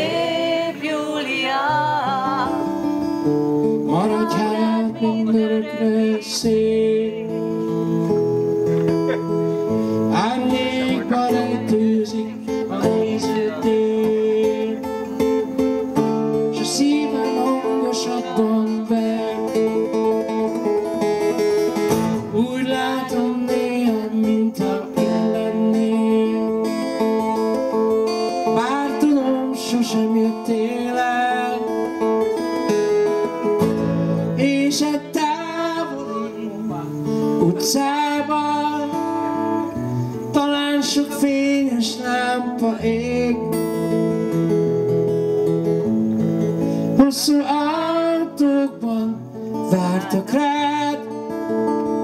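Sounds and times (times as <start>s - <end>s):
person singing: 0.0s - 8.0s, 8.8s - 15.4s, 16.3s - 20.7s, 22.1s - 32.0s, 34.0s - 44.2s, 46.8s - 52.0s
acoustic guitar: 0.0s - 52.0s.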